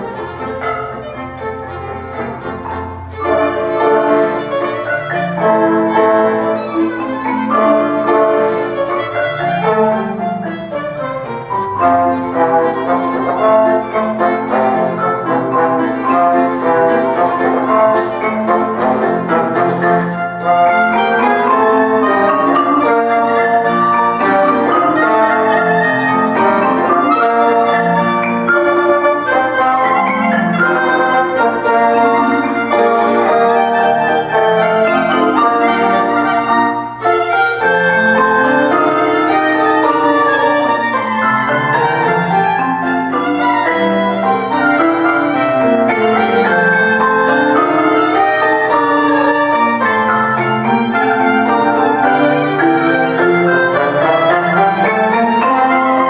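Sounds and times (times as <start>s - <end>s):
chamber ensemble playing: 0.0s - 56.0s
piano: 0.0s - 56.0s
violin melody: 0.0s - 56.0s.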